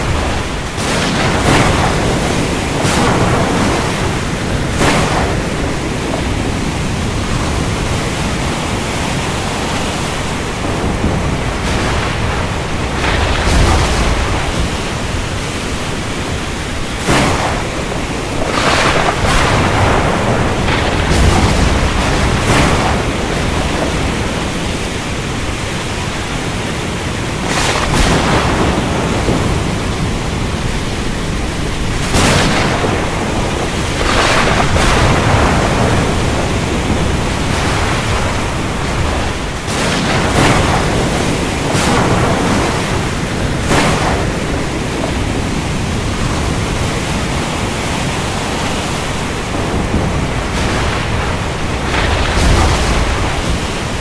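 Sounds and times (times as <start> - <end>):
deep thunder rumble: 0.0 - 54.0
rain: 0.0 - 54.0
sea noise: 0.0 - 54.0.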